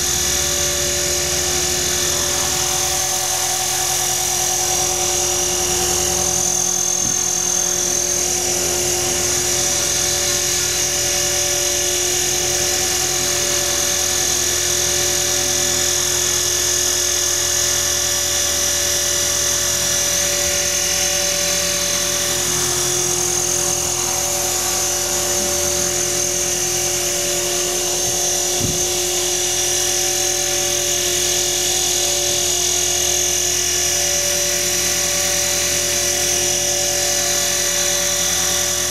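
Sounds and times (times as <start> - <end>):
motor and gears whining: 0.0 - 38.9
rotor blades humming: 0.0 - 38.9.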